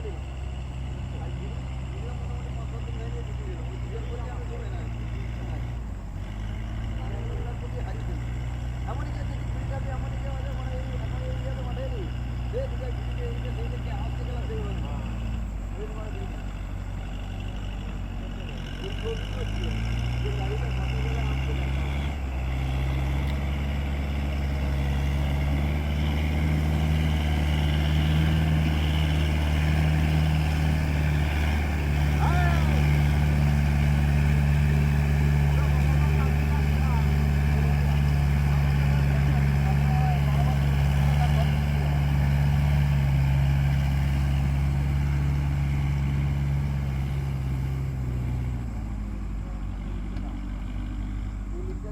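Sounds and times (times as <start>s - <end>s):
tractor diesel engine droning: 0.0s - 51.9s.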